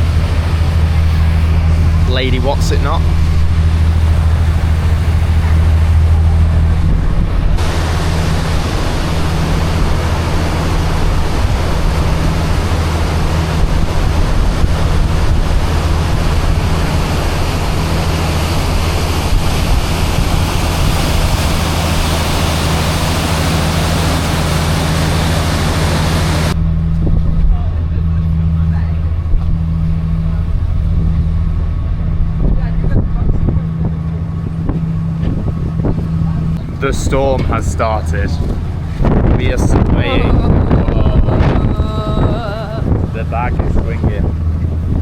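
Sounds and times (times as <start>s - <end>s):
wind and water rushing: 0.0s - 27.6s, 28.4s - 45.0s
boat engine drone: 0.0s - 45.0s.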